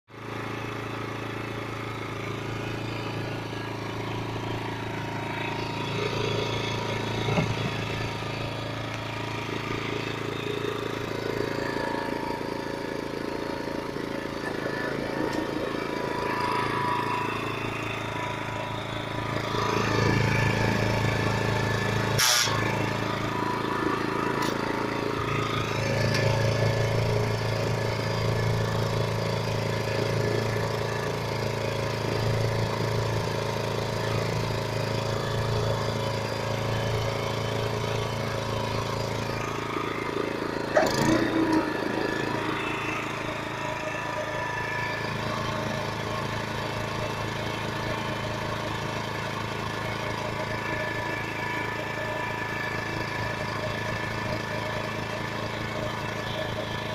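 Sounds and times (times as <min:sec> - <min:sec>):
lawn mower engine running: 0:00.1 - 0:56.9.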